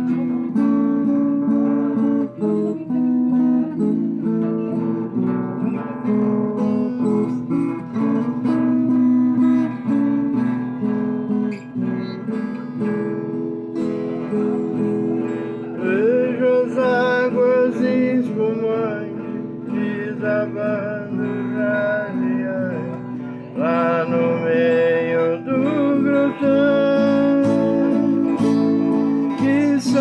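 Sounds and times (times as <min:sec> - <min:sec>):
plucked guitar melody: 0:00.0 - 0:30.0
strummed guitar chords: 0:00.0 - 0:30.0.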